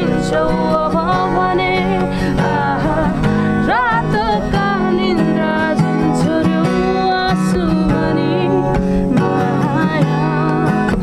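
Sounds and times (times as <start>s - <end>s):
person singing: 0.0s - 11.0s
strummed acoustic guitar: 0.0s - 11.0s.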